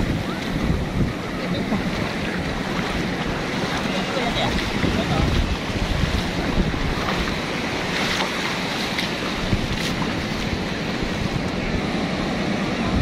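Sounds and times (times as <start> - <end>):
surf washing over sand: 0.0 - 13.0
wind buffeting microphone: 0.0 - 13.0.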